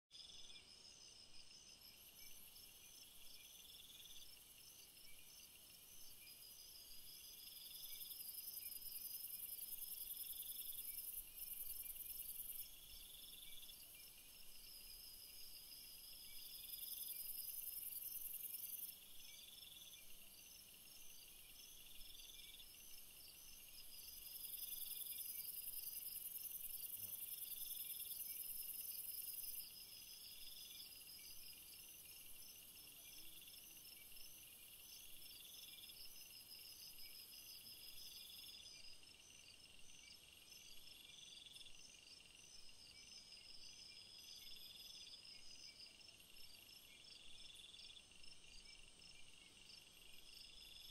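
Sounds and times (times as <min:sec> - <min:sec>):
insects chirping: 0:00.2 - 0:50.9.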